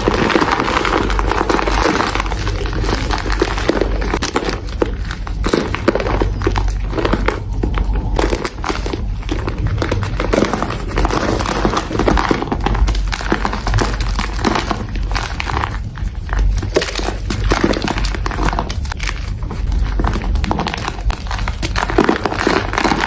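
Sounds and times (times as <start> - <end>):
chalk crunching and crackling: 0.0 - 23.0.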